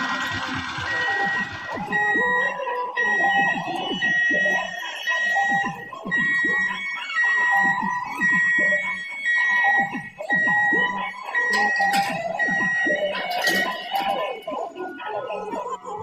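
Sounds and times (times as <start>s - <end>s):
level-crossing alarm beeping: 0.0s - 16.0s.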